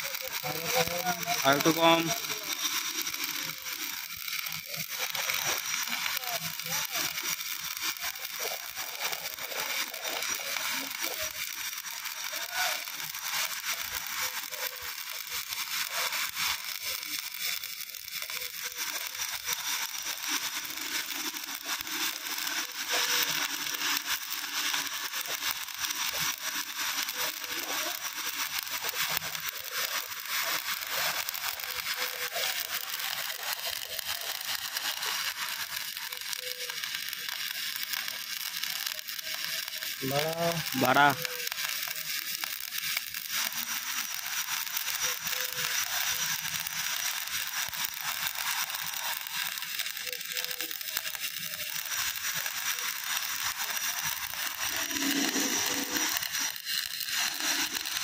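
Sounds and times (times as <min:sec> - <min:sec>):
welding arc crackling: 0:00.0 - 0:58.0.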